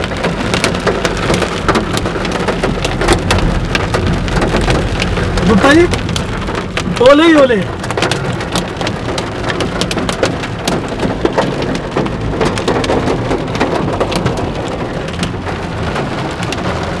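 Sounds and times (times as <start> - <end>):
hail and rain pelting car roof: 0.0 - 17.0
moving car rumble: 0.0 - 17.0.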